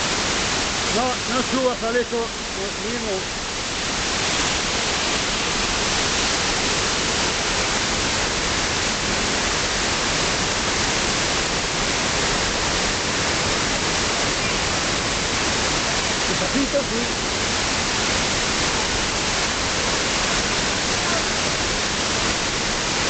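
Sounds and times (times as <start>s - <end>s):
waterfall pouring: 0.0s - 23.0s.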